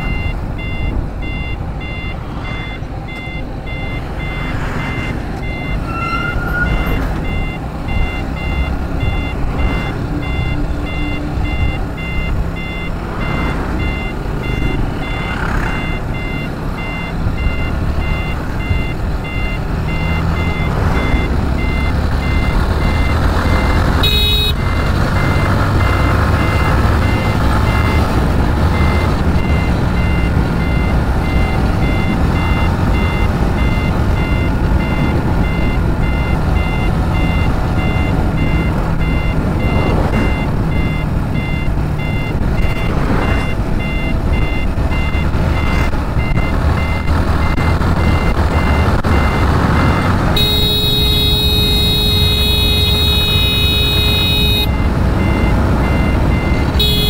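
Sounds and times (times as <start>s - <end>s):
electronic beeping: 0.0s - 57.0s
motorcycle engine: 6.8s - 57.0s.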